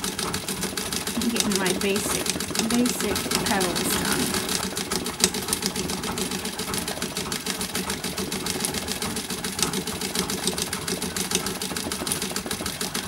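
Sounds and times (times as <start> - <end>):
sewing machine clatter: 0.0 - 13.0.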